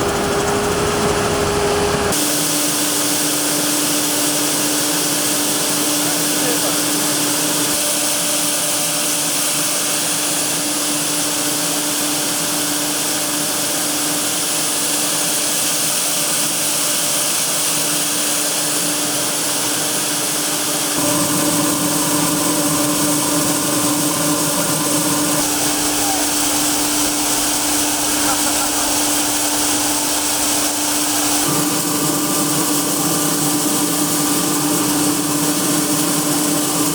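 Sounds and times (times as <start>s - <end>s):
combine harvester drone: 0.0s - 15.2s, 17.3s - 36.9s.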